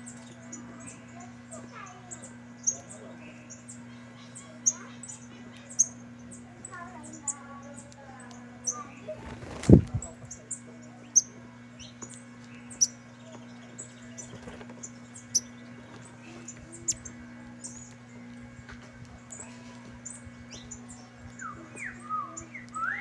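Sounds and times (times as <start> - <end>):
finches chirping: 0.0 - 18.5, 19.1 - 23.0.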